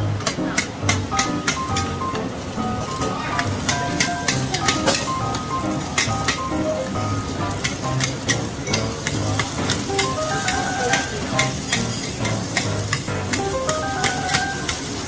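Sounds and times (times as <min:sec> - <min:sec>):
metal spatulas clacking on wok: 0:00.2 - 0:02.3, 0:03.0 - 0:05.4, 0:06.0 - 0:06.6, 0:07.2 - 0:15.0
food sizzling in oil: 0:00.5 - 0:15.0.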